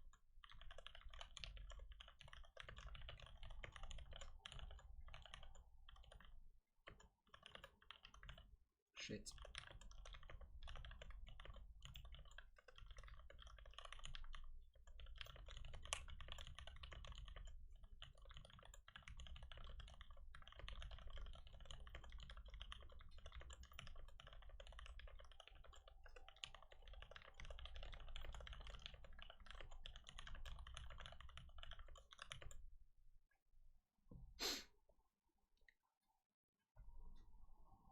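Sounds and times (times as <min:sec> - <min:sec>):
fast keyboard typing: 0:00.0 - 0:08.5, 0:09.3 - 0:32.6.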